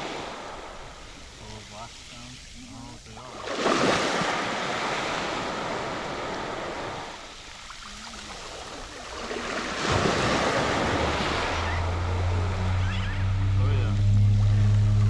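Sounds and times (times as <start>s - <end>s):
small waves washing on beach: 0.0s - 15.0s.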